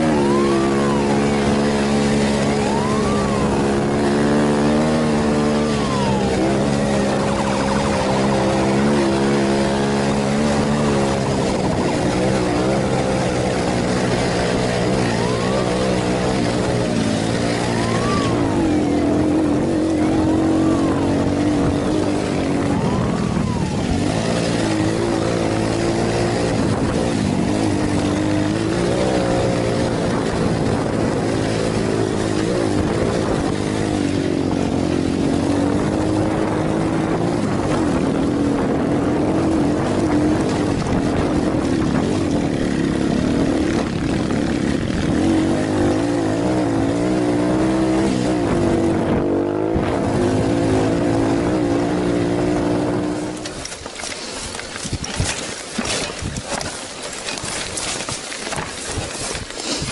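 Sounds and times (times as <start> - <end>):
motorcycle engine revving: 0.0 - 59.9
wind noise: 0.0 - 59.9.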